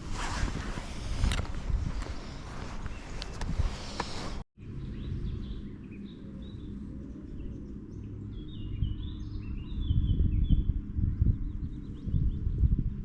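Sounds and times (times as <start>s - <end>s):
small birds chirping: 1.1s - 12.9s.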